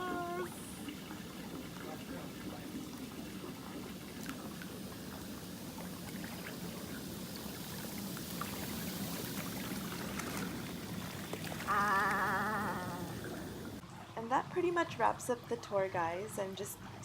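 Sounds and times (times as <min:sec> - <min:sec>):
pool water jets churning: 0:00.0 - 0:17.0.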